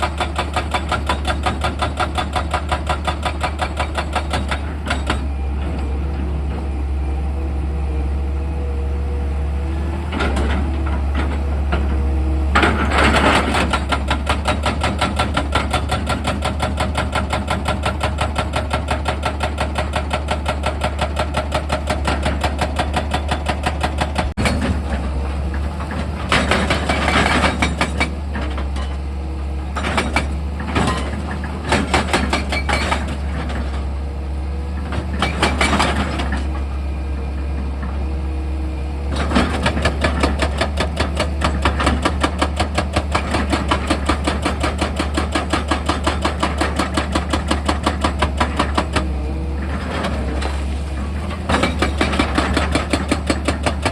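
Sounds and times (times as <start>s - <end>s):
diesel engine humming: 4.2s - 14.6s, 20.4s - 53.9s.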